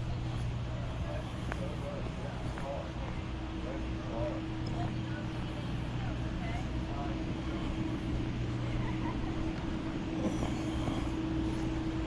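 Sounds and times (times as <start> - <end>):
motor humming steadily: 0.0 - 12.0.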